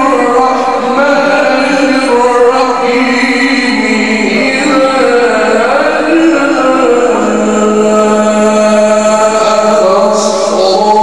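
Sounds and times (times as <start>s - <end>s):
man chanting recitation: 0.0s - 11.0s.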